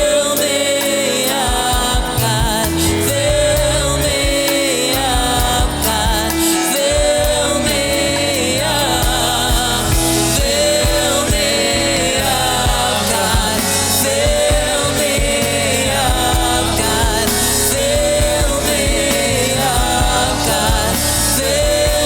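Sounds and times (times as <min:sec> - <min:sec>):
gospel singing: 0:00.0 - 0:22.0
instruments with steady beat: 0:00.0 - 0:22.0.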